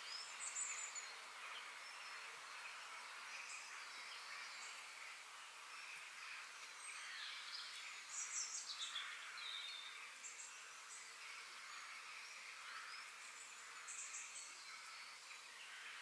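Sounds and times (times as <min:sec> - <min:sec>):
steady high background hiss: 0:00.0 - 0:16.0.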